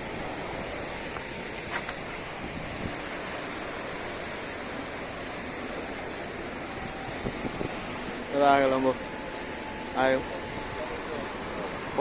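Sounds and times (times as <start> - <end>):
flooded river rushing: 0.0 - 12.0.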